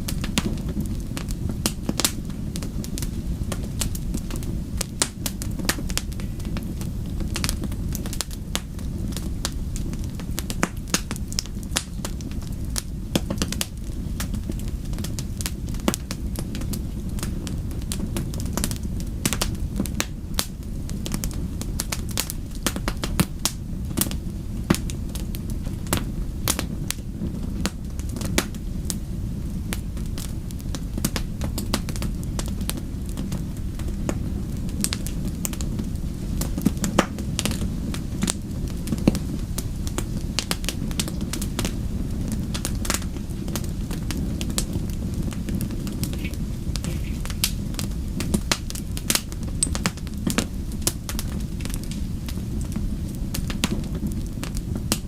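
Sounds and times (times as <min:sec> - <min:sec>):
logs crackling and popping: 0:00.0 - 0:55.0
wood fire rumbling: 0:00.0 - 0:55.0.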